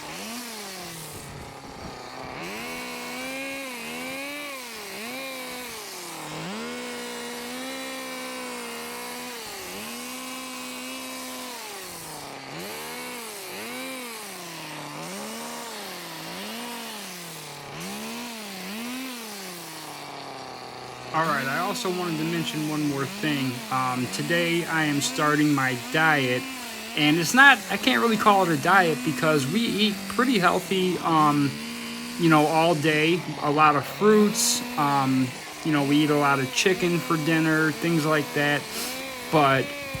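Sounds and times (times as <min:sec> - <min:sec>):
hedge trimmer motor revving: 0:00.0 - 0:40.0.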